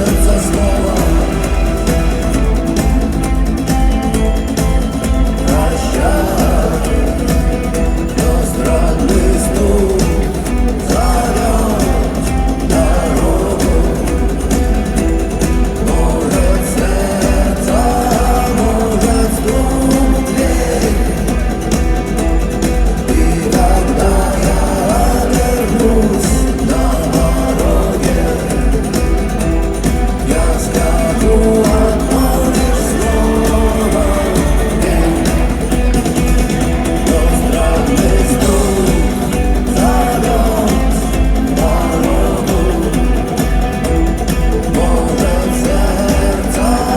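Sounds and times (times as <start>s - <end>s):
person singing: 0.0s - 46.9s
rock band playing live: 0.0s - 46.9s.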